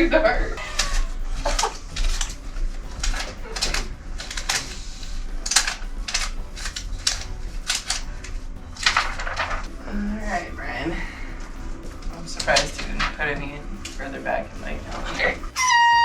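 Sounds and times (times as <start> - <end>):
small desk objects clicking and rustling: 0.6 - 10.0, 11.4 - 15.6.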